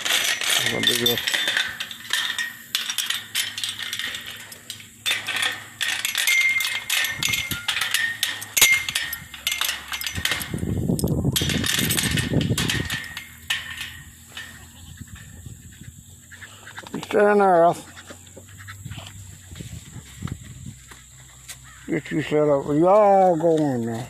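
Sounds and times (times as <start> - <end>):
metal clinking and rattling: 0.0 - 21.0
rough handling noise: 0.0 - 24.0.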